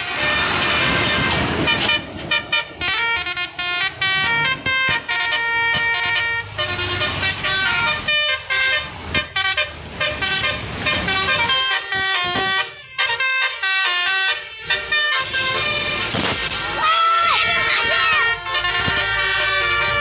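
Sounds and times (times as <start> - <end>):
musical bus horn playing a tune: 0.0 - 20.0.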